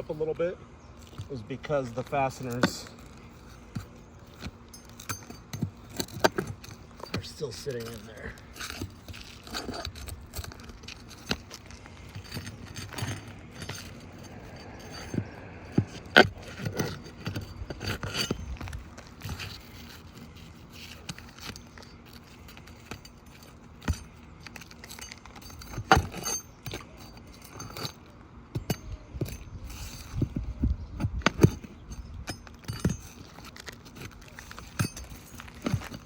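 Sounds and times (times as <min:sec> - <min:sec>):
pry bar scraping: 0:00.0 - 0:36.0.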